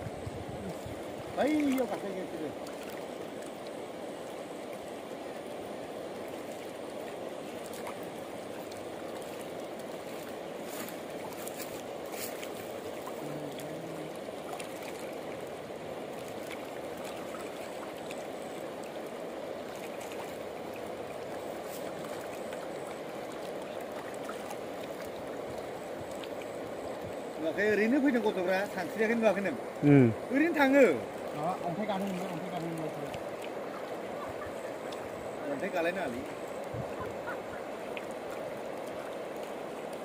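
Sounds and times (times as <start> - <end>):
river rushing: 0.0 - 40.0.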